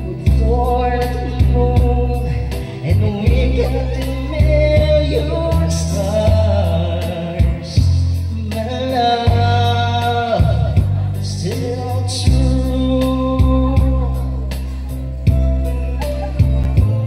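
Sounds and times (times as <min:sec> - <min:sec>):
backing track with beat: 0:00.0 - 0:17.0
man singing into a microphone: 0:00.0 - 0:17.0.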